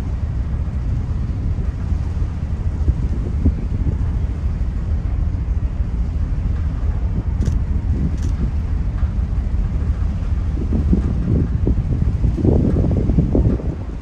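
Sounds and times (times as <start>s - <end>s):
ferry engines rumbling: 0.0s - 14.0s
wind buffeting microphone: 0.0s - 14.0s.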